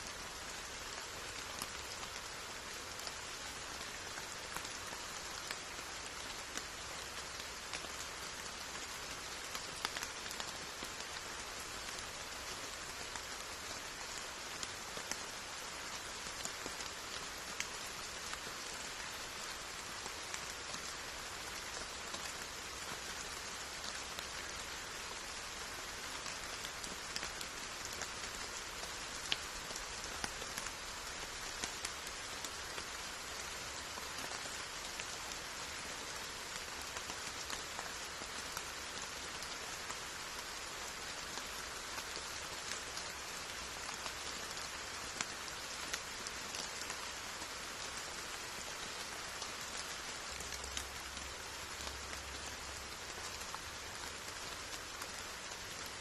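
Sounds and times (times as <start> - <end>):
raindrops striking surfaces: 0.0 - 56.0
steady rain hiss: 0.0 - 56.0.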